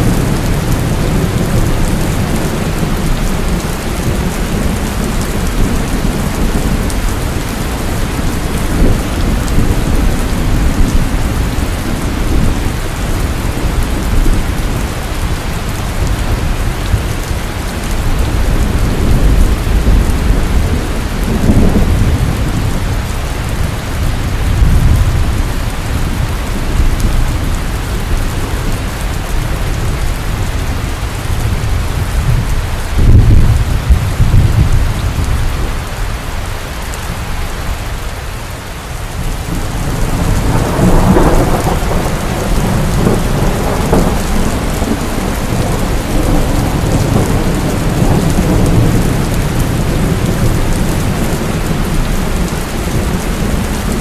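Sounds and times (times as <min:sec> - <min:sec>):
thunder rumbling: 0:00.0 - 0:36.2, 0:38.9 - 0:54.0
heavy rain pouring: 0:00.0 - 0:54.0.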